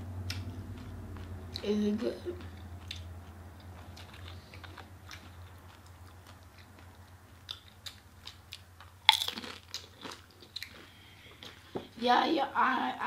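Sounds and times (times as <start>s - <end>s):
chewing crunchy food: 0.2s - 11.7s.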